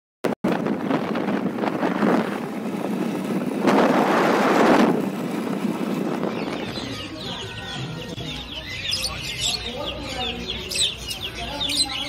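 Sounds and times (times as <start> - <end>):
wind buffeting microphone: 0.4 - 12.0.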